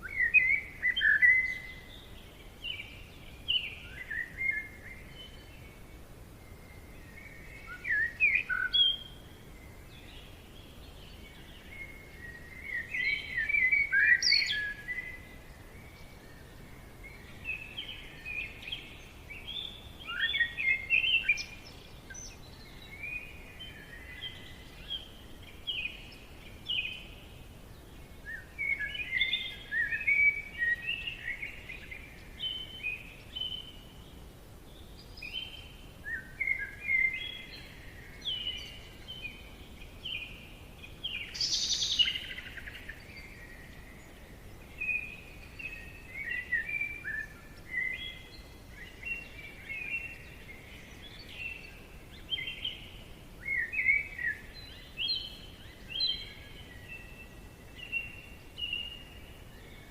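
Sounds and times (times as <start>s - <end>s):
faint background hiss: 0.0s - 59.9s
songbird chirping: 0.0s - 59.9s.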